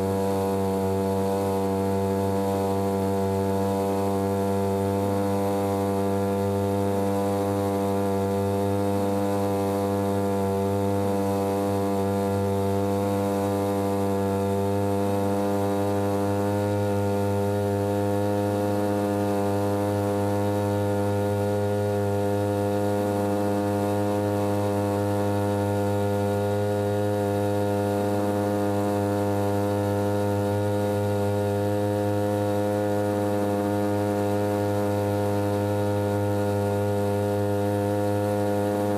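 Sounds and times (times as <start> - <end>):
outboard motor droning: 0.0 - 38.9.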